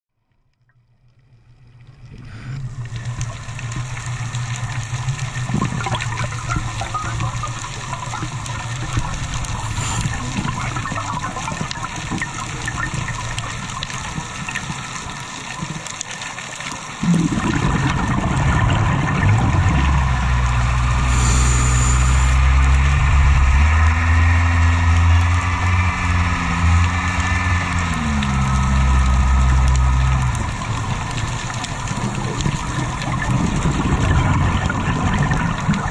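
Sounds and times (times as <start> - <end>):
low hum with steady tones: 0.8 - 16.0, 16.9 - 35.9
underwater hiss with crackling: 1.3 - 35.9.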